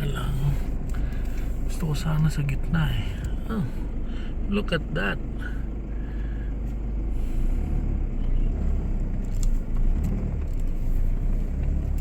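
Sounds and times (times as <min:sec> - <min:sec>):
suv engine and tyre rumble: 0:00.0 - 0:12.0.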